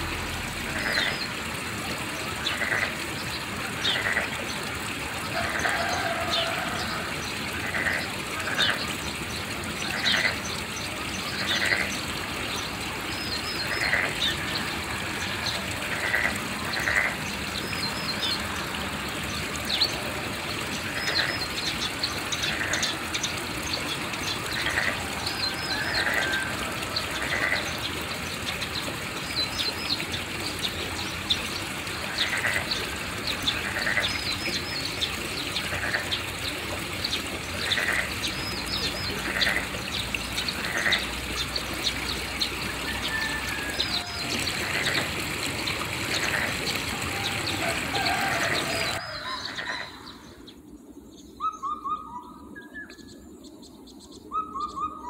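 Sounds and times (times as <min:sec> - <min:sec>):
rushing water: 0:00.0 - 0:51.1.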